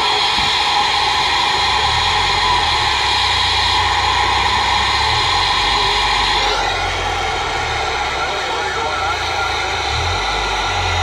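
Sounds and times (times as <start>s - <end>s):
low hum: 0.0s - 11.0s
radio static rush: 0.0s - 11.0s.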